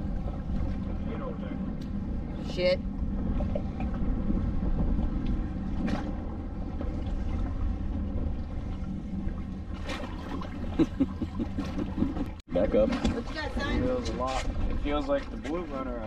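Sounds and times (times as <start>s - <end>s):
wind on microphone: 0.0s - 15.2s
boat engine idling: 0.0s - 16.0s
water around hull: 0.0s - 16.0s.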